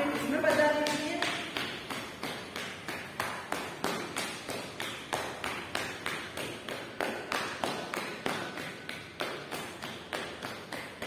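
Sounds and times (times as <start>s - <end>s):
hands clapping and slapping rhythm: 0.0s - 11.0s.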